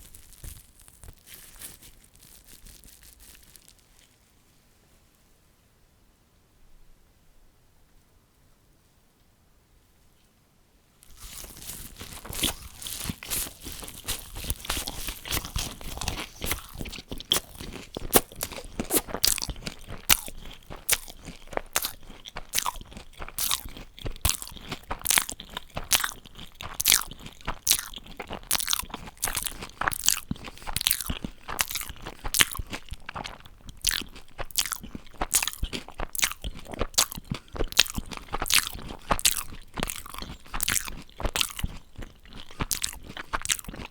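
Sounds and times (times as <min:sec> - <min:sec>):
chewing crunchy food: 0:00.0 - 0:04.2, 0:11.0 - 0:43.9.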